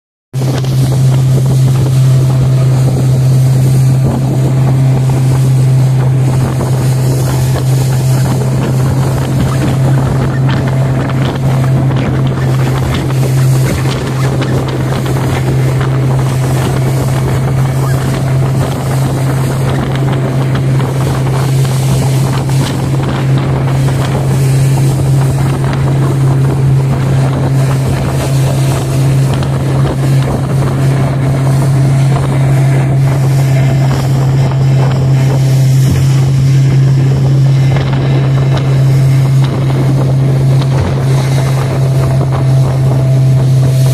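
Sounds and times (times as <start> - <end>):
motorboat engine running: 0.4 - 43.9
wind buffeting microphone: 0.4 - 43.9.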